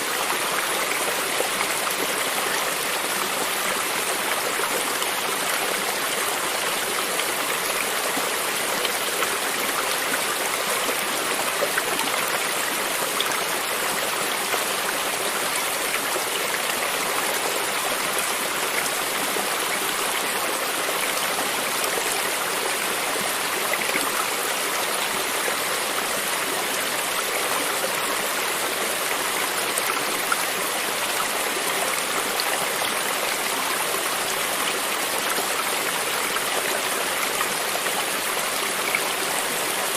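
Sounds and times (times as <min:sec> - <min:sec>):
brook water rushing and babbling: 0:00.0 - 0:39.9.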